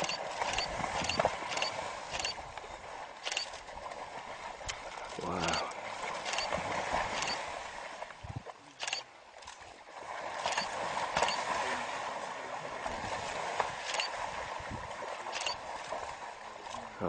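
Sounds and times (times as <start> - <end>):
rushing river water: 0.0 - 17.0
water splashes: 0.0 - 17.0.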